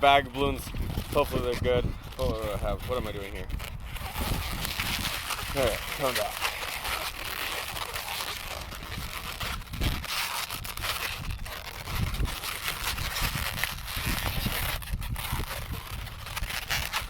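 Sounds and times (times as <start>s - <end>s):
balloons rubbing and crinkling: 0.0s - 17.0s.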